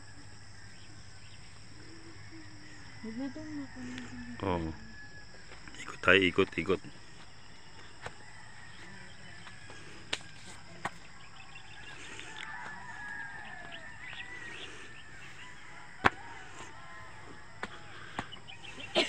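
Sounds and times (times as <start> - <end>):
birds calling: 0.0 - 19.0
distant rooster crowing: 0.0 - 19.0
insect drone: 0.0 - 19.0.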